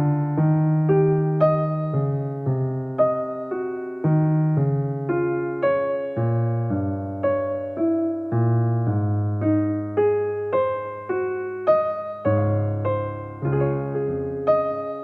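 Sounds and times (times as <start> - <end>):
held low piano bass notes: 0.0 - 15.0
slow piano melody: 0.0 - 15.0.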